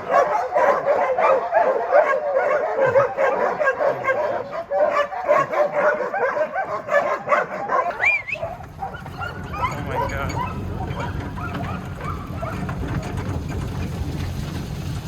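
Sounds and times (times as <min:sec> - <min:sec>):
sled dogs barking and yipping: 0:00.0 - 0:15.0.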